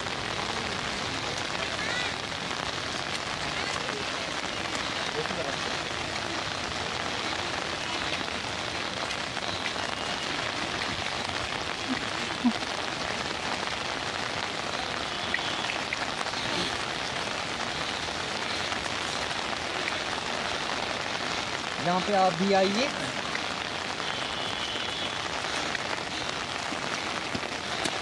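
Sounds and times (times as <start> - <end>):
heavy rain on stone paving: 0.0 - 28.0.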